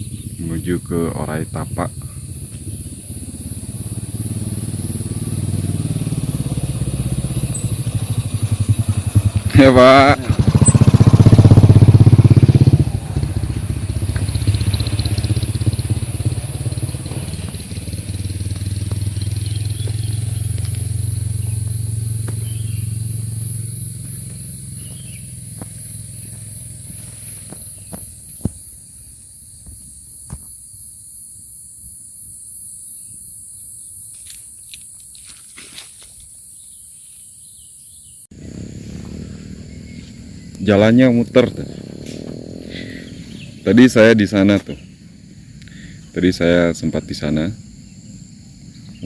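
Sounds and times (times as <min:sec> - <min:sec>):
motorcycle engine running: 0:00.0 - 0:28.9, 0:38.3 - 0:49.0
high insect drone: 0:00.0 - 0:49.0.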